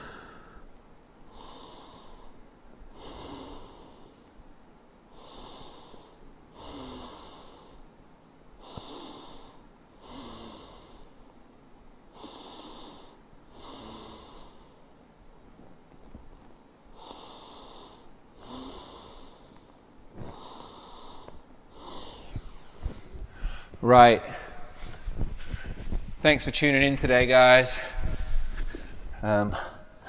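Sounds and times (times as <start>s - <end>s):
man breathing slowly and deeply: 0.0s - 4.4s, 5.1s - 7.9s, 8.6s - 11.4s, 12.1s - 15.0s, 16.9s - 26.2s, 27.7s - 30.0s.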